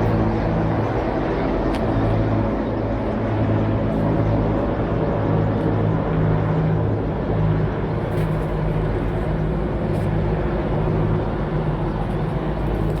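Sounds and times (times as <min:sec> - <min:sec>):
helicopter drone: 0:00.0 - 0:13.0.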